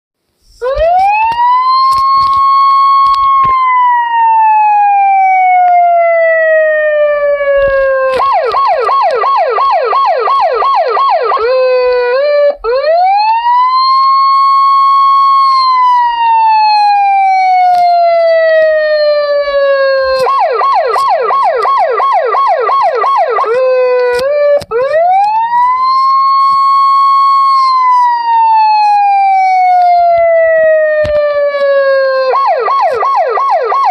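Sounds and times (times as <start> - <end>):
police siren wail and yelp: 0.6 - 33.9.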